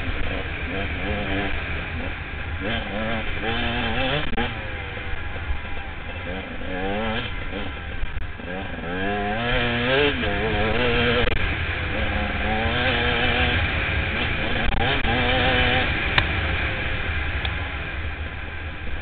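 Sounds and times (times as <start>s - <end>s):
motorcycle engine running hard: 0.0s - 19.0s.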